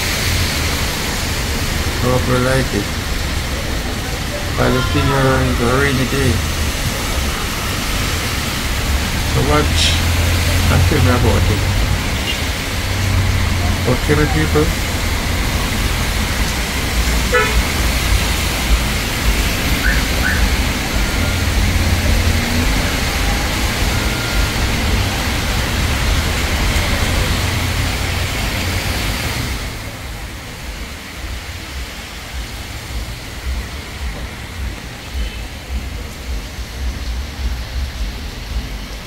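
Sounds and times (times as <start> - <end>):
traffic on wet road: 0.0 - 39.0.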